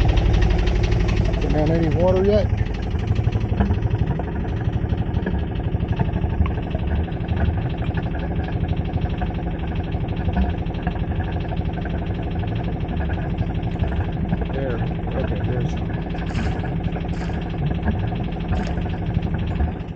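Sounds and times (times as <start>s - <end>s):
boat engine idling: 0.0s - 19.9s.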